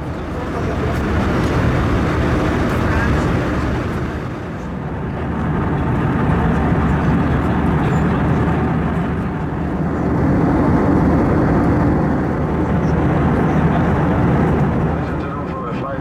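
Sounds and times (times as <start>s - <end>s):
jet airliner engine roar: 0.0s - 16.0s.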